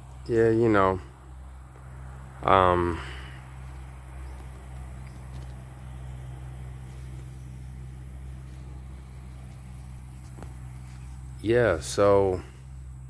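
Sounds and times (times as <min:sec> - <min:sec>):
faint insect calls: 0:00.0 - 0:13.0
steady low hum: 0:00.0 - 0:13.0.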